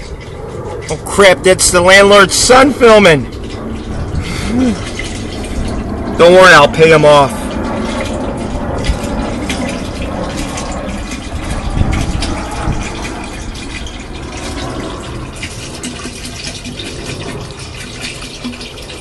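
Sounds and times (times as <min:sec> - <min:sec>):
liquid pouring into tank: 0:00.0 - 0:19.0.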